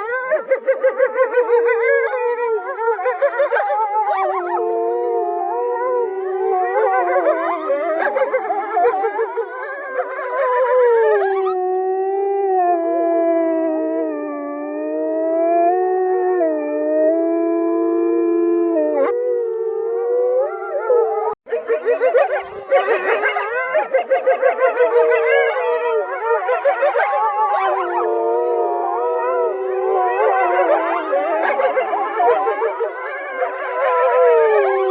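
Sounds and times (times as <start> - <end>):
wolves howling in chorus: 0.0 - 34.9.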